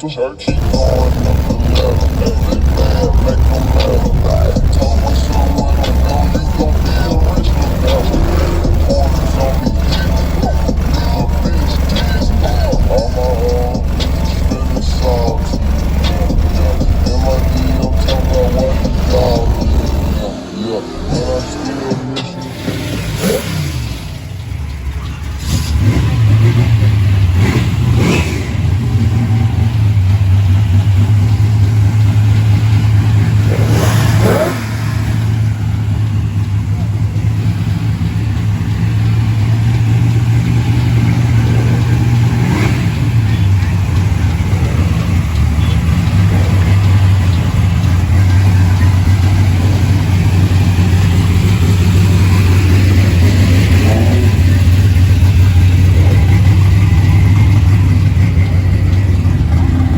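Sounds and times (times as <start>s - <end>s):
car engine droning: 0.0s - 59.9s.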